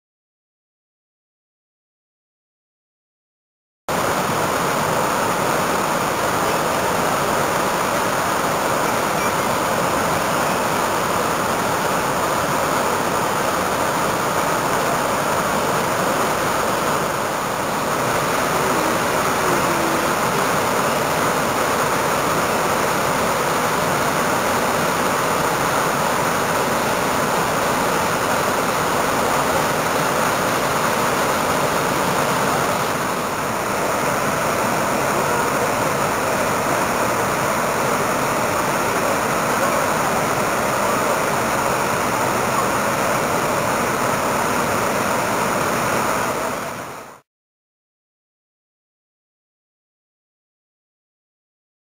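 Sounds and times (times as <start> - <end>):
waterfall rushing: 3.9 - 47.2.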